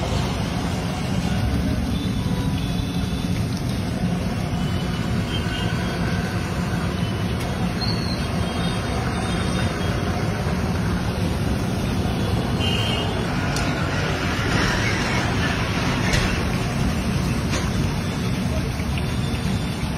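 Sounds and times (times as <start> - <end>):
banana slices frying in oil: 0.0 - 19.9.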